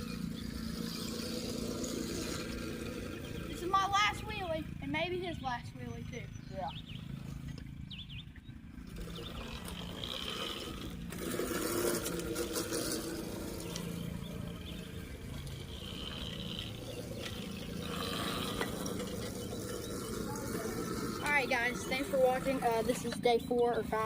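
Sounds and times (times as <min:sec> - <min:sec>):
faint electric motor hum: 0:00.0 - 0:24.0
wind: 0:00.0 - 0:24.0.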